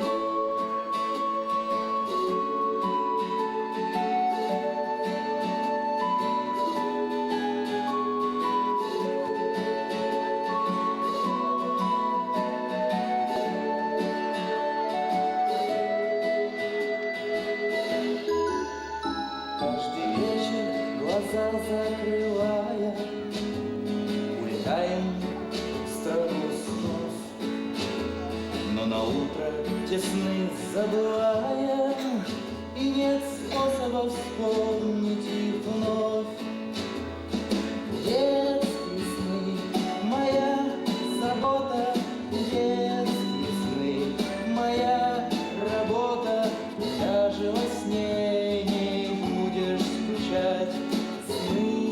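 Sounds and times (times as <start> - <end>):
person singing: 0.0 - 23.6, 24.2 - 36.9, 37.9 - 51.9
instrumental accompaniment: 0.0 - 51.9.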